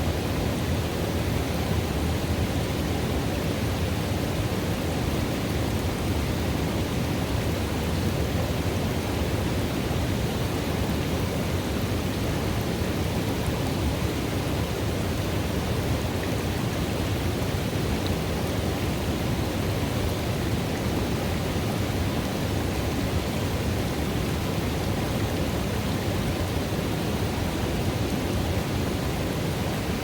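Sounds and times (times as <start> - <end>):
river water running: 0.0 - 30.0.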